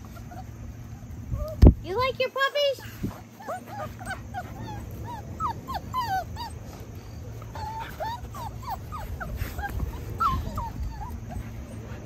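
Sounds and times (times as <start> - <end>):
puppies whimpering and yipping: 0.0 - 2.1, 2.7 - 12.0.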